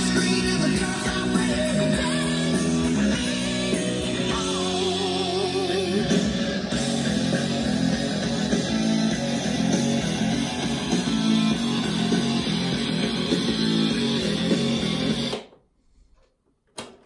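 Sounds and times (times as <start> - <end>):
rock song through speakers: 0.0 - 15.5.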